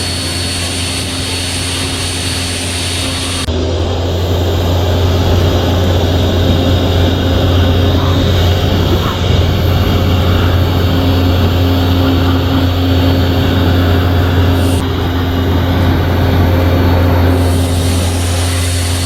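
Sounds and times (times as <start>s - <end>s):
pressure washer running: 0.0s - 19.0s.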